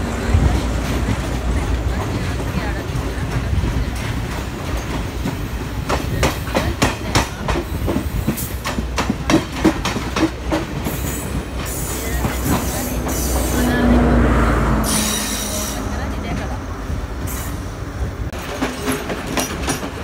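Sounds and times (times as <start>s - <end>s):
train carriages rumbling past: 0.0s - 20.0s.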